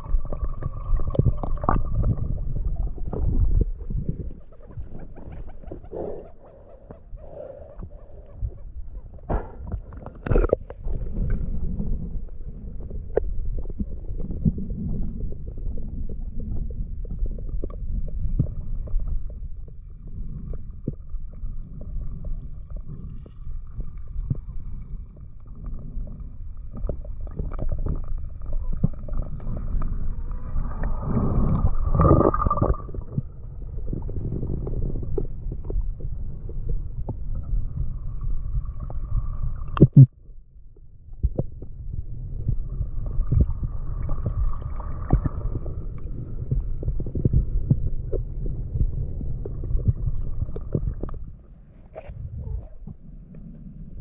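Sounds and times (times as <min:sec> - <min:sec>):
underwater rumble of moving water: 0:00.0 - 0:54.0.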